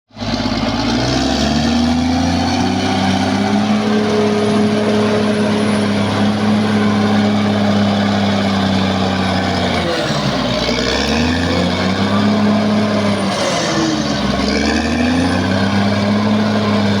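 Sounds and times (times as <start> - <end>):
bulldozer diesel engine running hard: 0.1 - 17.0.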